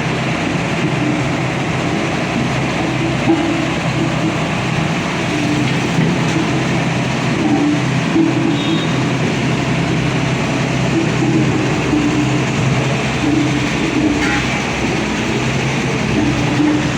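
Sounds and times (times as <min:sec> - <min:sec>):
road roller engine running: 0:00.0 - 0:16.9.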